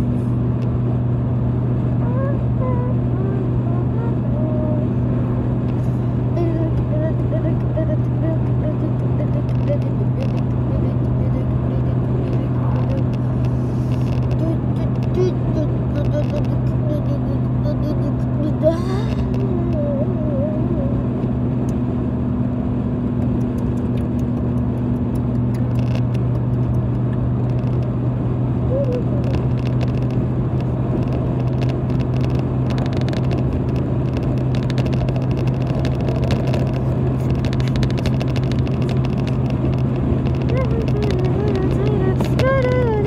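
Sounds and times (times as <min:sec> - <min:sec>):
car engine and tyre drone: 0:00.0 - 0:43.0.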